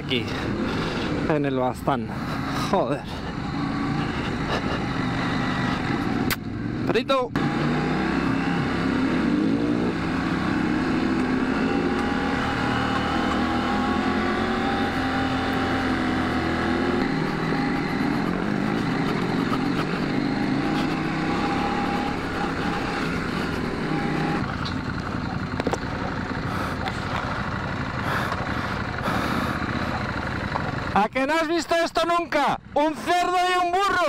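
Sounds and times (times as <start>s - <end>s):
motorcycle engine running: 0.0s - 31.4s.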